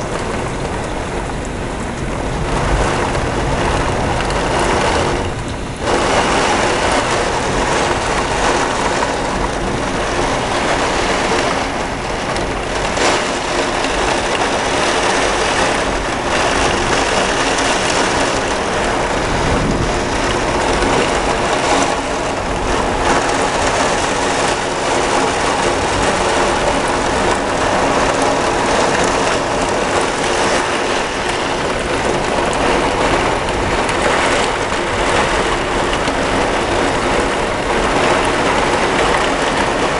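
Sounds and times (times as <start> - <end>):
heavy rain: 0.0 - 39.9
strong wind: 0.0 - 39.9.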